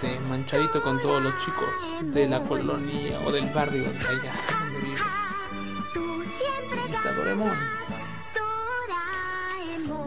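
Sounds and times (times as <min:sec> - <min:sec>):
music with wavering held notes: 0:00.0 - 0:10.0.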